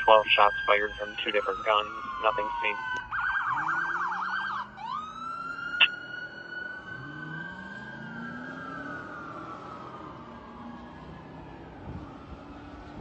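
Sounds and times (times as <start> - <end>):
fire truck siren: 0.0 - 13.0.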